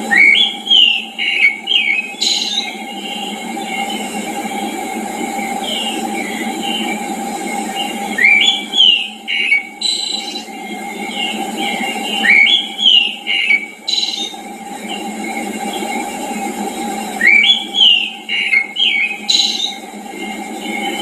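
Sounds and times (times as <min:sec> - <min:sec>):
songbird singing: 0:00.0 - 0:16.0, 0:16.8 - 0:21.0
background hiss and hum: 0:00.0 - 0:21.0.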